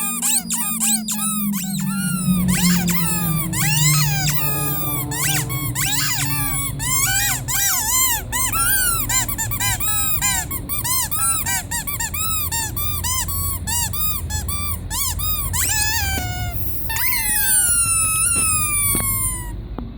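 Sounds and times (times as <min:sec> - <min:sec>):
squeaky rubber toy squeaking: 0:00.0 - 0:19.6.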